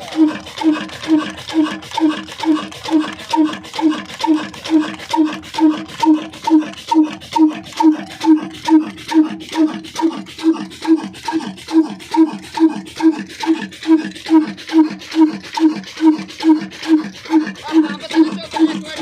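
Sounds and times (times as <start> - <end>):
diesel engine slow pulsing: 0.0 - 19.0.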